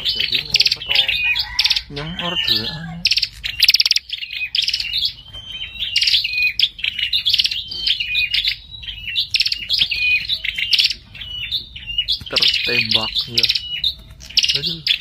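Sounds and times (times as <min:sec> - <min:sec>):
songbird trilling and whistling: 0:00.0 - 0:15.0.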